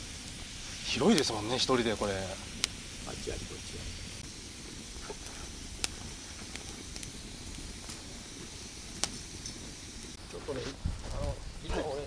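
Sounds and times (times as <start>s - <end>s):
fire hissing: 0.0s - 12.0s
fire popping: 0.0s - 12.0s
wood fire crackling: 0.0s - 12.0s.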